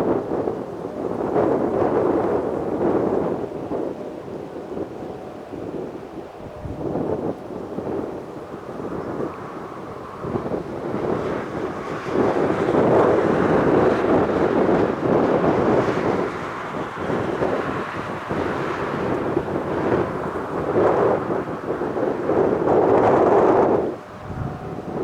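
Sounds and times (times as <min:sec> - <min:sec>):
aircraft engine rumble: 0:00.0 - 0:25.0.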